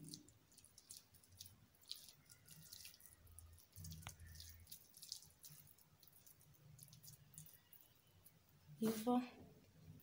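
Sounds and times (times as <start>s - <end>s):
hands squishing meat mixture: 0.0s - 8.6s.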